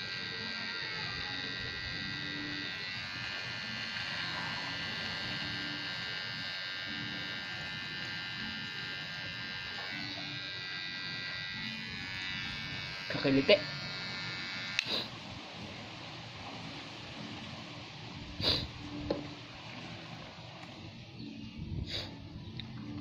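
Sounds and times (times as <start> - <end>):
electric hair clipper buzzing: 0.0 - 20.8.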